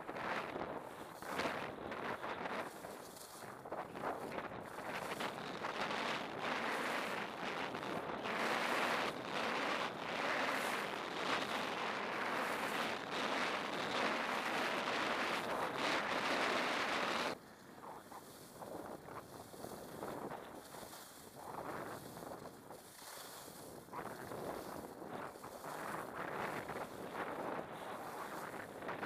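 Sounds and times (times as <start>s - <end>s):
skis scraping over snow: 0.0s - 29.0s
wind on microphone: 0.0s - 29.0s.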